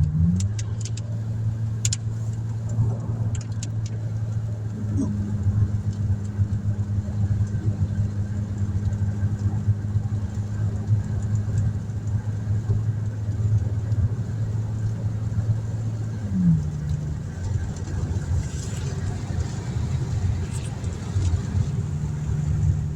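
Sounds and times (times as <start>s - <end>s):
car engine and road noise: 0.0s - 22.9s.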